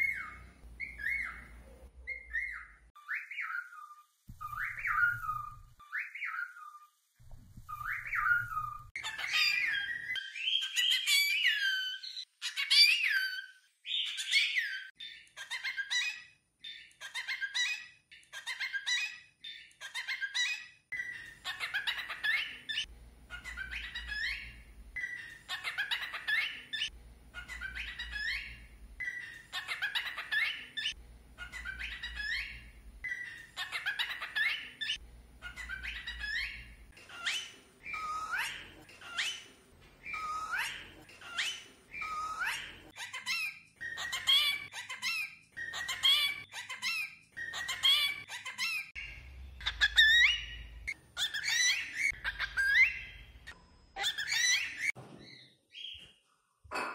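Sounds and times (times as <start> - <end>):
cockatiel chirping and whistling: 0.0 - 6.9, 7.6 - 56.0.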